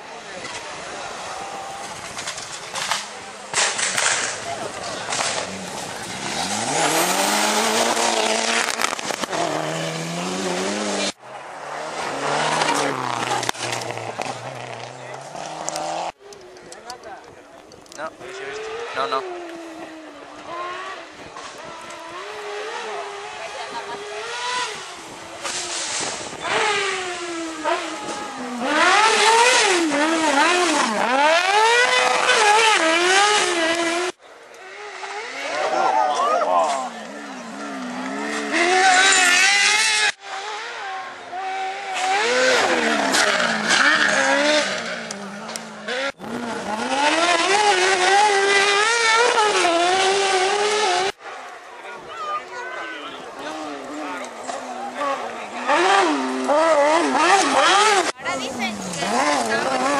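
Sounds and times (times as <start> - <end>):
rally car engine at high revs: 0.0 - 16.2, 18.2 - 51.4, 53.2 - 59.9
second rally car approaching: 0.0 - 59.9.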